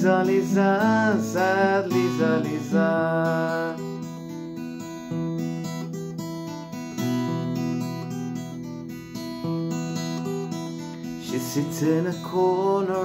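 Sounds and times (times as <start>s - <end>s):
fingerpicked acoustic guitar: 0.0s - 13.0s.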